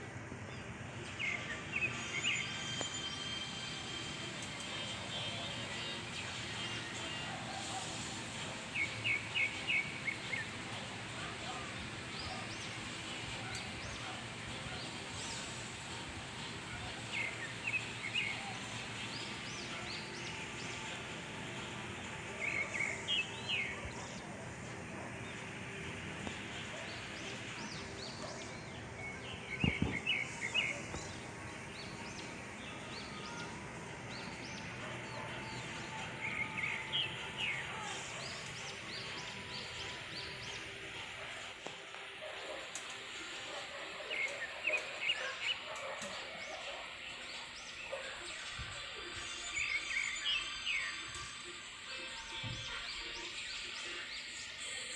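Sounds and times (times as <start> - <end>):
birds chirping: 0.0 - 54.9
outdoor background noise: 0.0 - 54.9.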